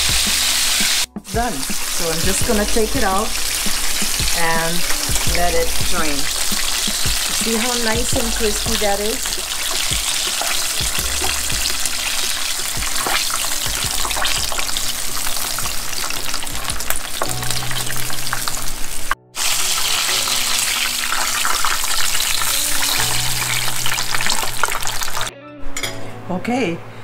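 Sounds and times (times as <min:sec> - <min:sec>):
chicken deep-frying in oil: 0:00.0 - 0:25.3.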